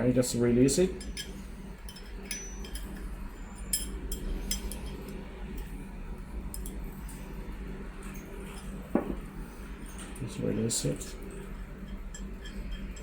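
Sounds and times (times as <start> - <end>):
light metallic clinks: 0.8 - 5.8, 6.5 - 7.4, 8.0 - 13.0.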